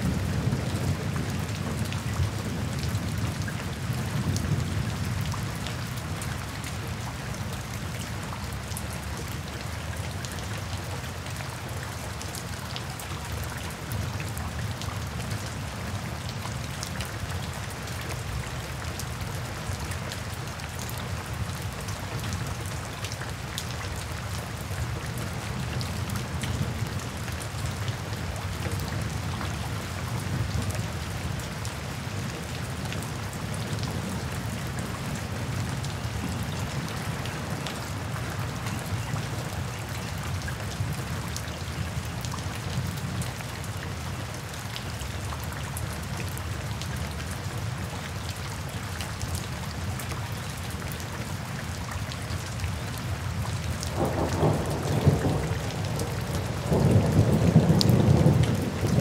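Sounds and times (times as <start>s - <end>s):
rain falling on foliage: 0.0s - 59.0s.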